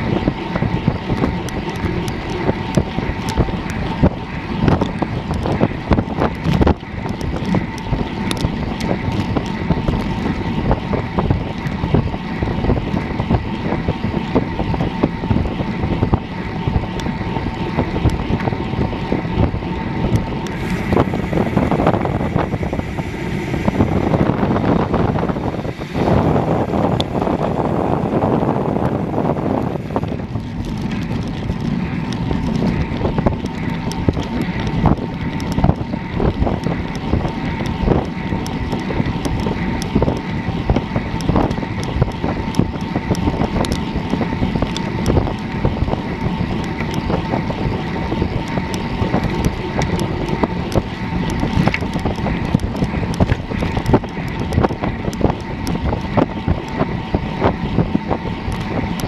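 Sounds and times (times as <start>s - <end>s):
bike clicks and rattles: 0.0s - 59.0s
wind buffeting microphone: 0.0s - 59.0s.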